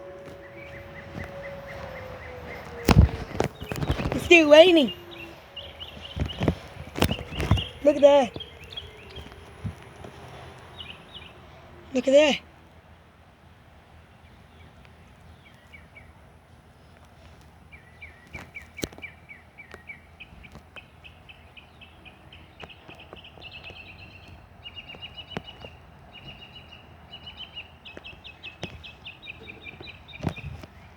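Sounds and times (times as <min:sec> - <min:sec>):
bird chirping: 0:00.0 - 0:12.4, 0:17.7 - 0:30.9.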